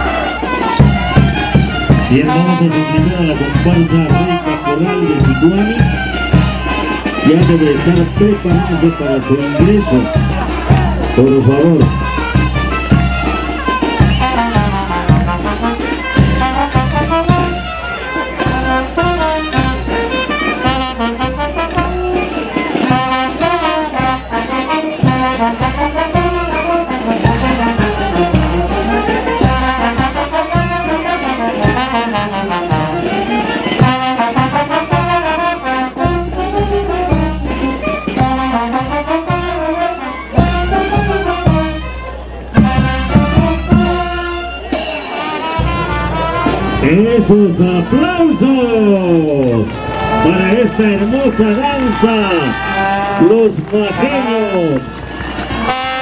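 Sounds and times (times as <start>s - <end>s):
brass band playing dance tune: 0.0s - 56.0s
steady drum beat: 0.0s - 56.0s.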